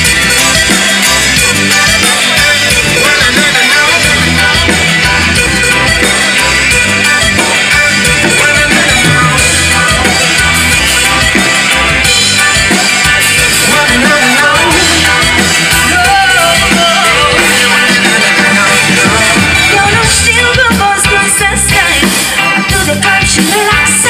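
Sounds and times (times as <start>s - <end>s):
drum kit: 0.0s - 24.0s
electric guitar: 0.0s - 24.0s
person singing: 0.0s - 24.0s.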